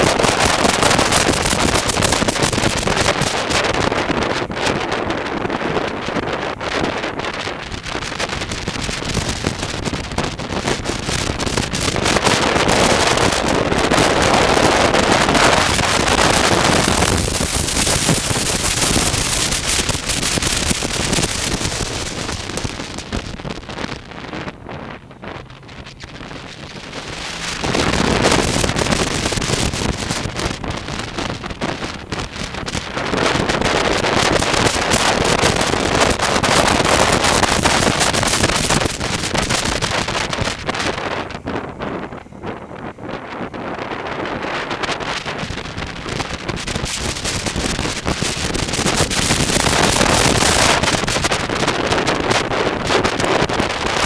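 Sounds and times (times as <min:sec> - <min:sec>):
motorcycle road and engine noise: 0:00.0 - 0:54.0
wind rushing over microphone: 0:00.0 - 0:54.0.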